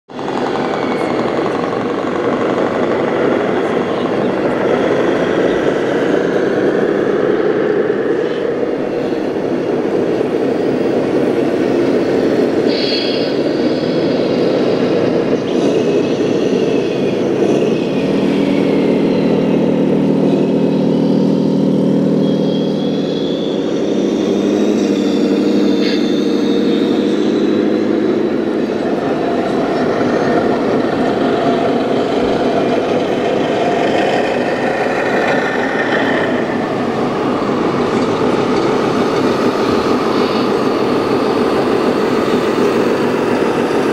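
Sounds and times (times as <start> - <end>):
hum of busy hall: 0.1 - 43.9
low drone: 0.1 - 43.9
simulated diesel truck engine: 0.1 - 43.9.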